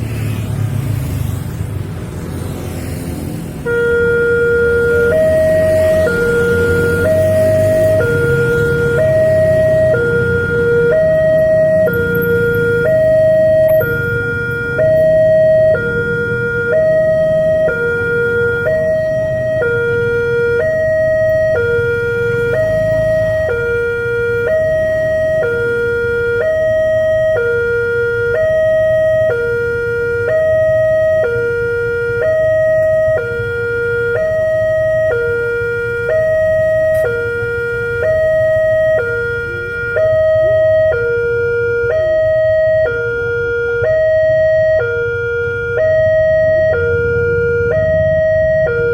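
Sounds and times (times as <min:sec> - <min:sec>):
two-tone level crossing alarm: 0:03.7 - 0:48.9.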